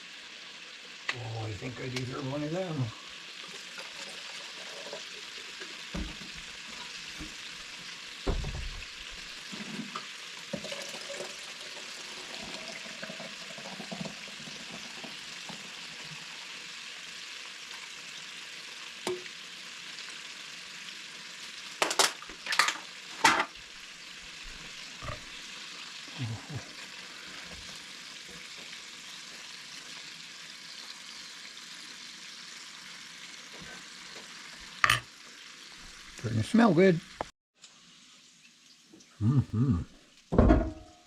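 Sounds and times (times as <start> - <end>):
ribs sizzling in a pan: 0.0 - 40.4.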